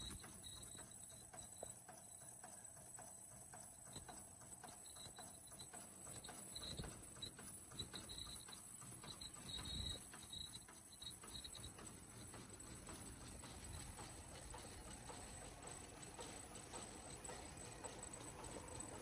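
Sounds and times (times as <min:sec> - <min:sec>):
high-pitched machine whine: 0:00.0 - 0:19.0
machine clicking: 0:00.0 - 0:19.0.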